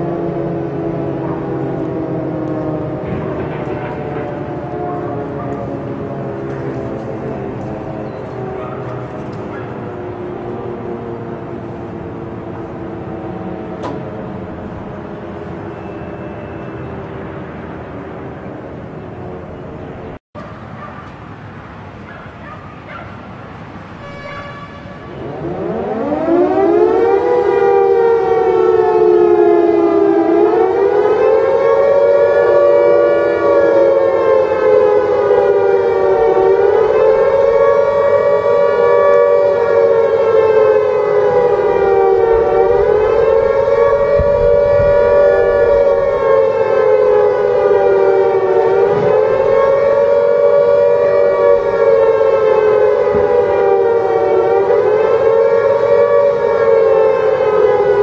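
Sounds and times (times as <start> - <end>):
siren wailing: 0.0 - 20.2, 23.6 - 58.0.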